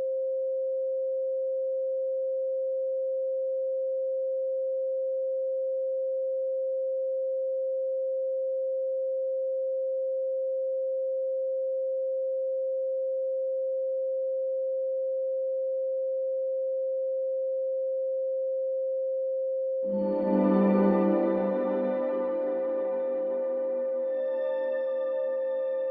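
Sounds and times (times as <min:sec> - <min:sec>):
pure sine tone: 0:00.0 - 0:25.9.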